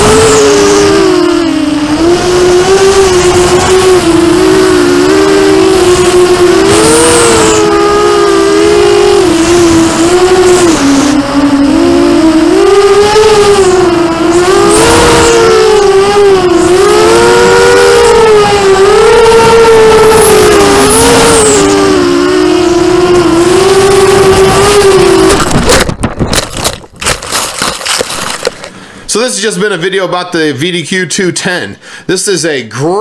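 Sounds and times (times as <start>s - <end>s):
quadcopter motors whining: 0.0s - 28.8s.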